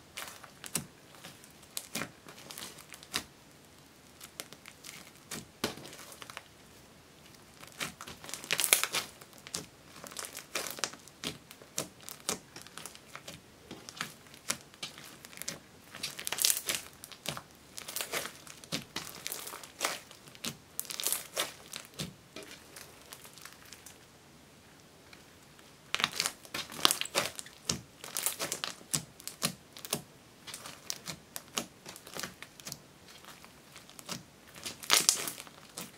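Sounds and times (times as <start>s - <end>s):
slime crackling and popping: 0.1s - 6.5s, 7.2s - 24.0s, 25.9s - 35.9s.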